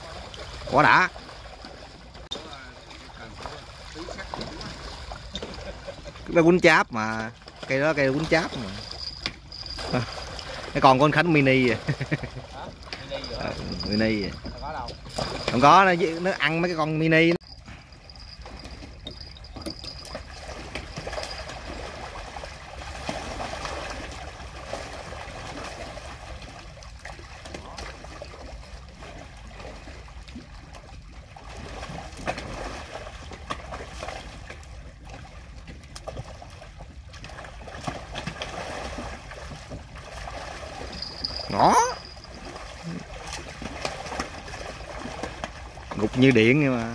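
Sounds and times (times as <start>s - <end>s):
water trickling and lapping: 0.0s - 46.9s.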